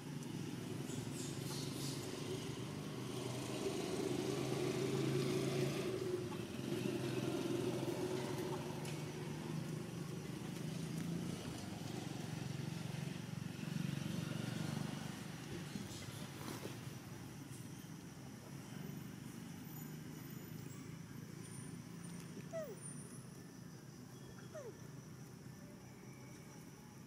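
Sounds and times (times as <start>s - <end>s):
vehicle engine humming: 0.0s - 23.1s.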